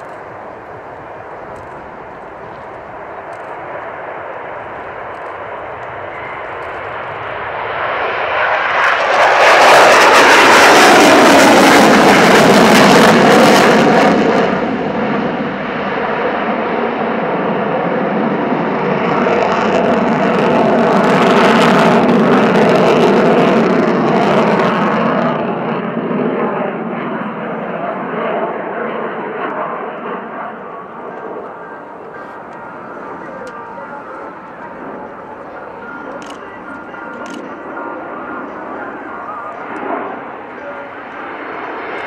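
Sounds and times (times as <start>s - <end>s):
jet fighter roaring past: 0.0s - 42.0s.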